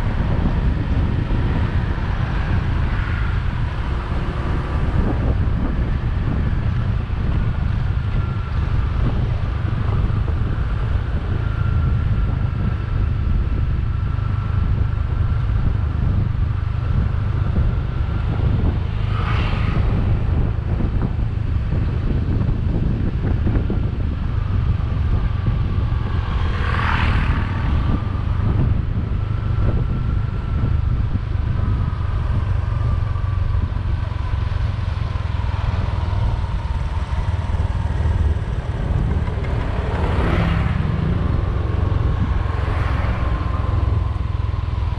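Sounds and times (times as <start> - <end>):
motorbike engine rumble: 0.0 - 44.9
wind buffeting microphone: 0.0 - 44.9.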